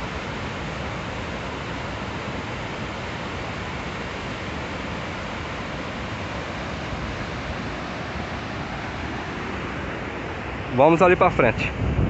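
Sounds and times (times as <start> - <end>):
water rushing down spillway: 0.0 - 11.8.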